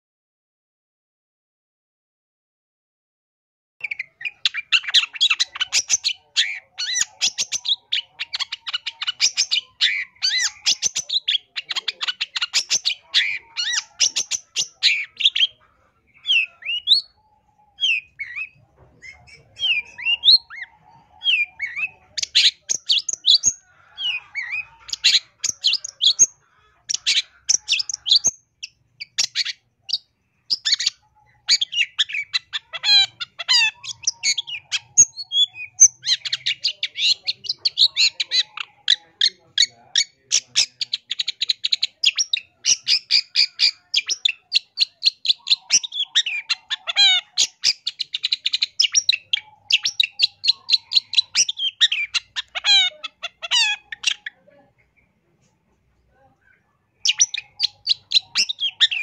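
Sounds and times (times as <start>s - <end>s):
bird singing: 3.8s - 55.2s, 56.4s - 59.0s.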